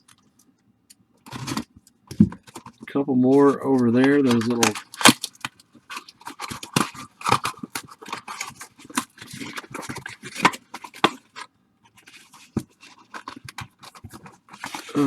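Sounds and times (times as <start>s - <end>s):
wrapper crinkling: 2.4s - 15.0s.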